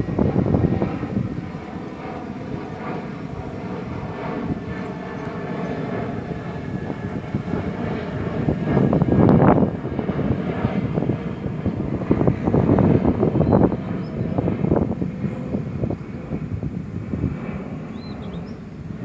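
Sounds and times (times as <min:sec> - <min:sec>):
jet airliner passing overhead: 0:00.0 - 0:19.0.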